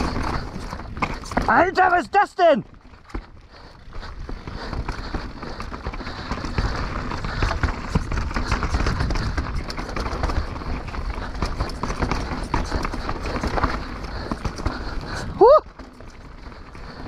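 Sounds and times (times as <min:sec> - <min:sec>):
bike rattling and clattering: 0:00.0 - 0:17.0
bike tyres rumbling over stones: 0:00.0 - 0:17.0.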